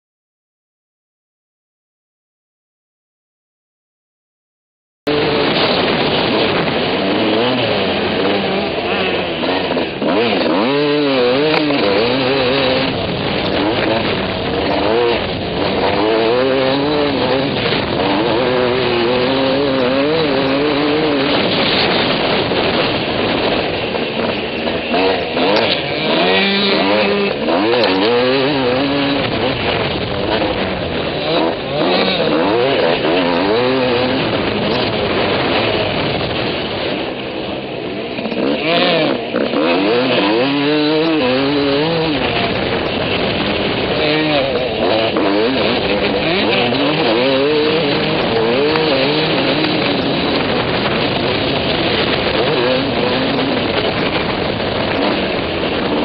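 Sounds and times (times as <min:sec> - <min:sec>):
motocross engine revving: 0:05.1 - 0:56.0.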